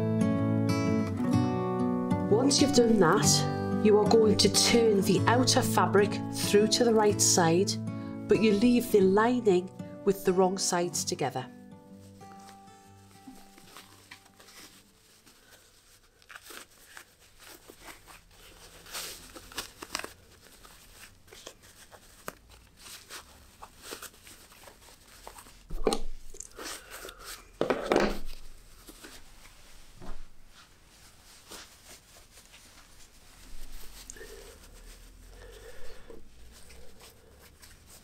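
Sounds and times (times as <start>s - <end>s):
cotton fabric rustling: 2.3s - 7.6s, 10.3s - 38.0s.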